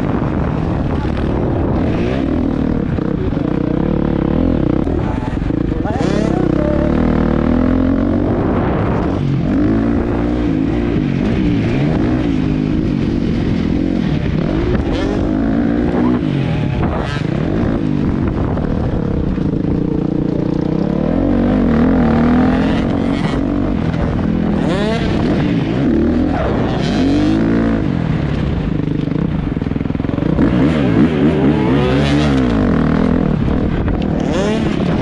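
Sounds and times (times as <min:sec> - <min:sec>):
dirt bike engine revving: 0:00.0 - 0:35.0
low wind rumble: 0:00.0 - 0:35.0.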